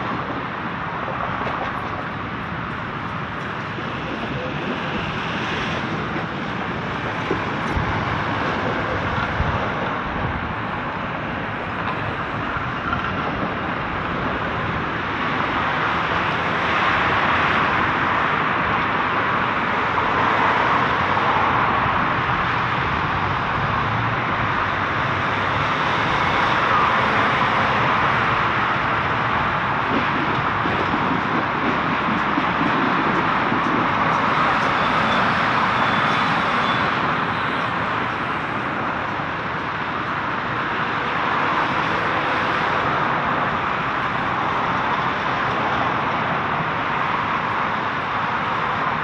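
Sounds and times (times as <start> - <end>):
passing vehicles rushing: 0.0 - 49.0.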